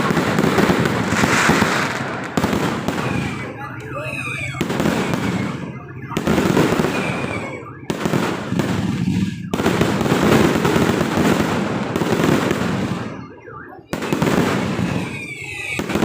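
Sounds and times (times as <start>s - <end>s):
fireworks crackling: 0.0s - 13.2s, 13.9s - 16.0s.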